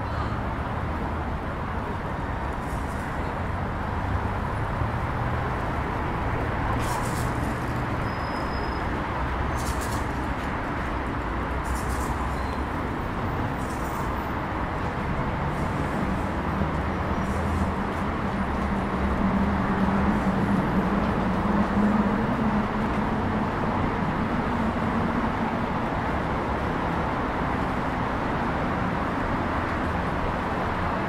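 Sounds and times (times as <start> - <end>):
car traffic rumble: 0.0 - 31.0.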